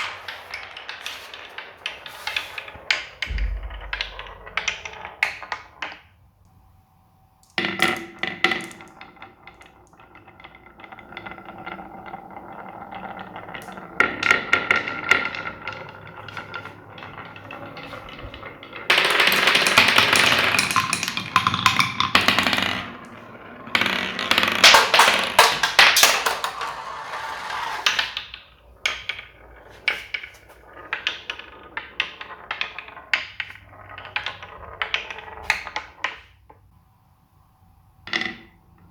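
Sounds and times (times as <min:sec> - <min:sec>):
marbles rolling and clacking: 0:00.0 - 0:06.2, 0:07.4 - 0:36.7, 0:38.0 - 0:38.9.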